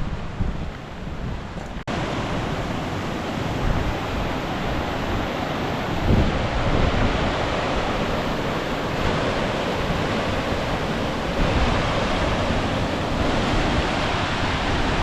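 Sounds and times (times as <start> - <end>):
river and waterfalls rushing: 0.2 - 15.0.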